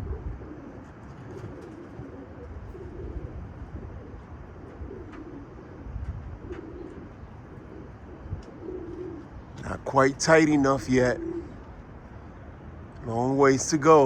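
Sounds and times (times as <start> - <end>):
pigeons cooing: 0.0 - 13.8.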